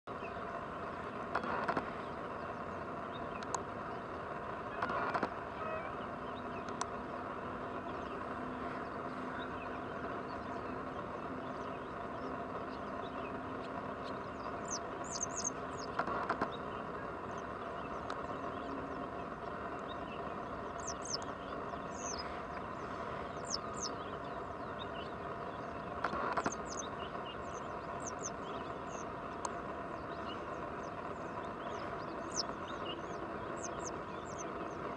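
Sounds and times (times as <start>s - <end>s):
steady background hum: 0.1s - 34.9s.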